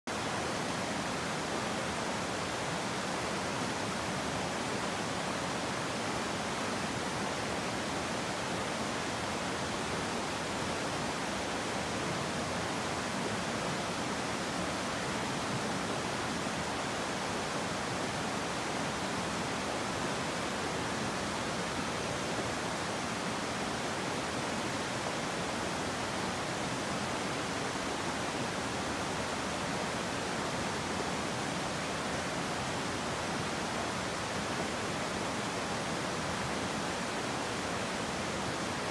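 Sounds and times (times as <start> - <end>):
river water rushing: 0.1 - 38.9.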